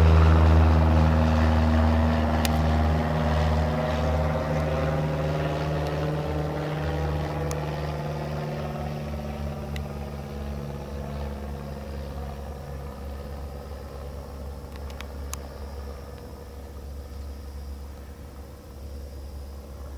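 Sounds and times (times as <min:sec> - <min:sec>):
light aircraft flying past: 0:00.0 - 0:19.9.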